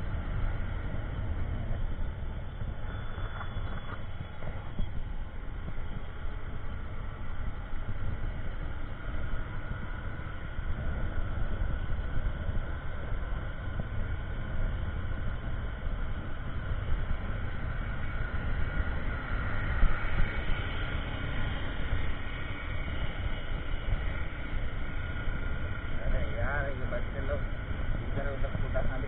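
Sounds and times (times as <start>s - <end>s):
motorcycle engine running: 0.0s - 29.0s
road noise: 0.0s - 29.0s
wind buffeting microphone: 0.0s - 29.0s.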